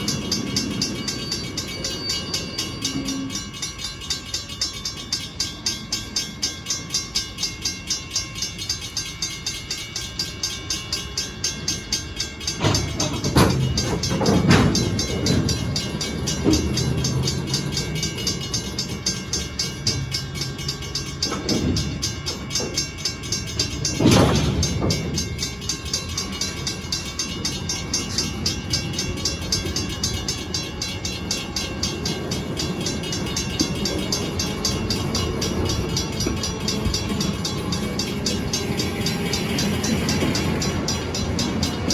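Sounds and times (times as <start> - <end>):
crossing bell dinging: 0.0 - 41.9
freight train rolling: 0.0 - 41.9
metallic clanks of train cars: 0.0 - 41.9.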